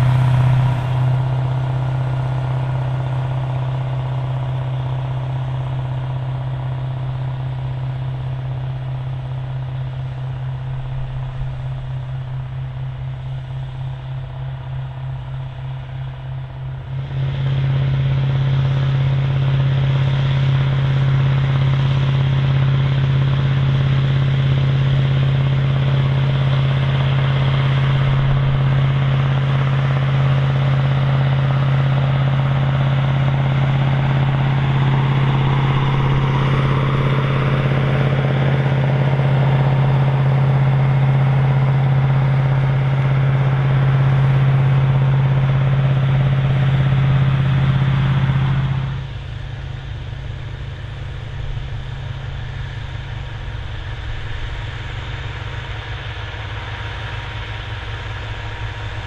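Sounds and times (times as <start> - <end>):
tractor diesel engine drone: 0.0 - 59.0.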